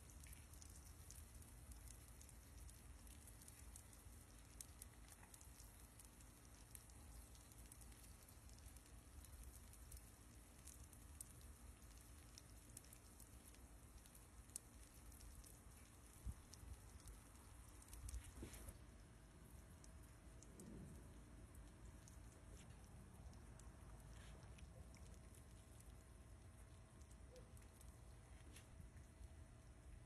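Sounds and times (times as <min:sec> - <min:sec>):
faint low rumble: 0:00.0 - 0:30.0
faint ticks and crackles: 0:00.0 - 0:30.0.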